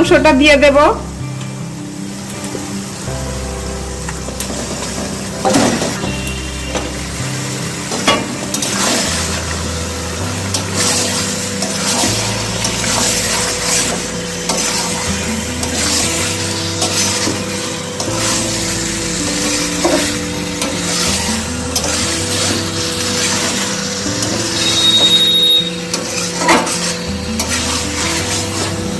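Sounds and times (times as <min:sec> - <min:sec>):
chicken sizzling in oil: 0:01.1 - 0:28.9
spatula scraping pan: 0:04.7 - 0:28.9.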